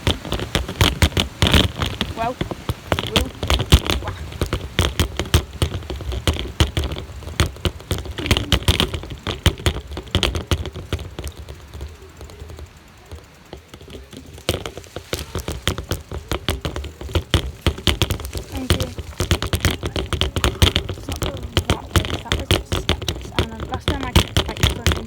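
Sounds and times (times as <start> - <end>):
bike rattling over rough ground: 0.0 - 25.0.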